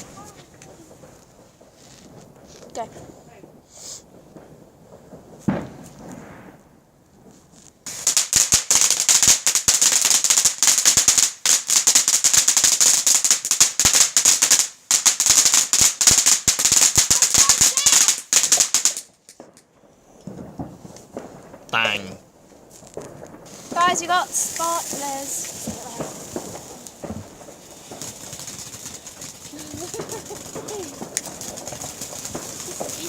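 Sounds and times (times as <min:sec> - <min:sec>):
firework crackling: 0:00.0 - 0:33.0.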